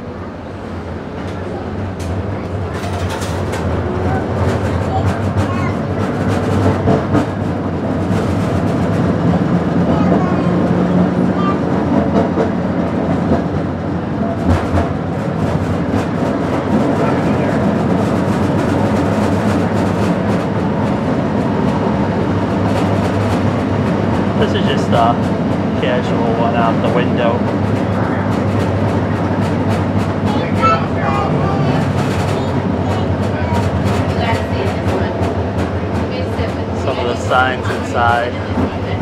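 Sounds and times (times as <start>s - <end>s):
wheels rumbling on rails: 0.0s - 39.0s.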